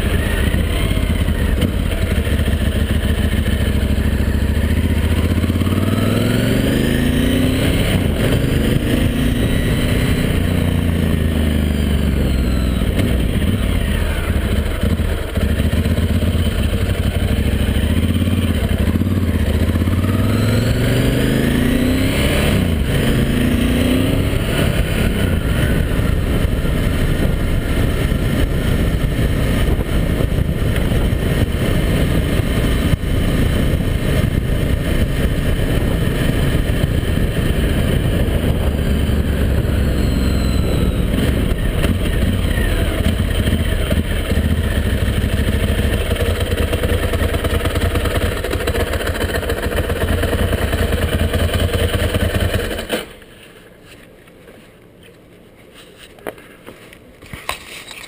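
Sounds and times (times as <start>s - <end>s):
motorcycle engine accelerating: 0.0s - 53.2s.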